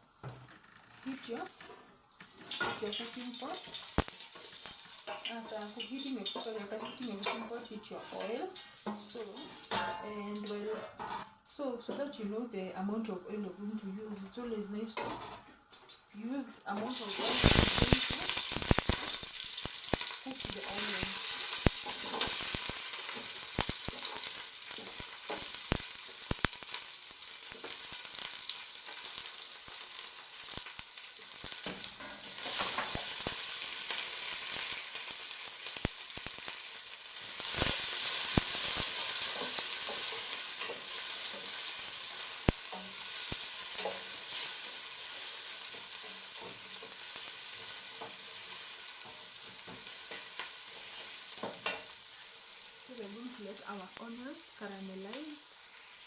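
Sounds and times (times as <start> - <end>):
onions sizzling in oil: 0.0 - 10.7, 16.6 - 56.0.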